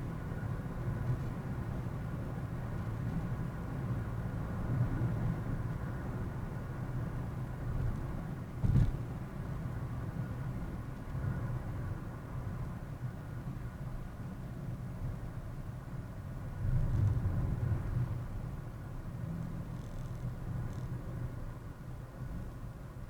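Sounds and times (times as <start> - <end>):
road and engine rumble: 0.0 - 23.0.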